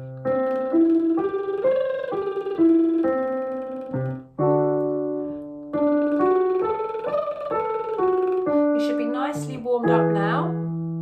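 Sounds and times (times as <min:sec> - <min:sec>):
piano playing arpeggios over chords: 0:00.0 - 0:11.0.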